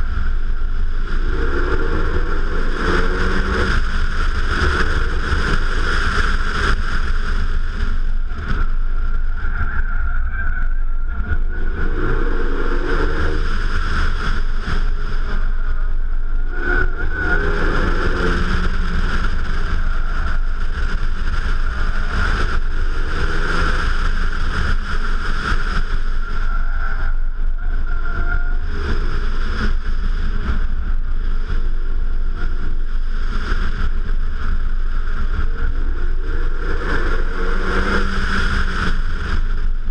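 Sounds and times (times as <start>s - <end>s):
car engine at speed: 0.0s - 39.9s.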